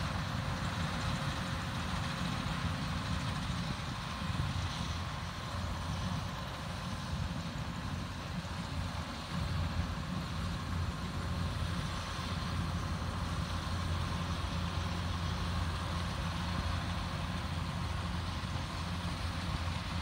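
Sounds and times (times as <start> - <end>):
combine harvester diesel engine: 0.0 - 20.0.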